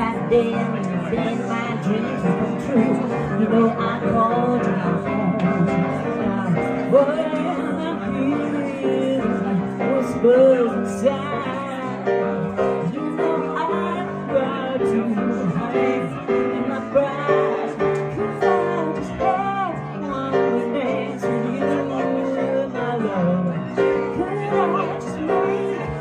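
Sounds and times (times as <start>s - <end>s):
grand piano: 0.0s - 26.0s
woman singing into a microphone: 0.0s - 26.0s.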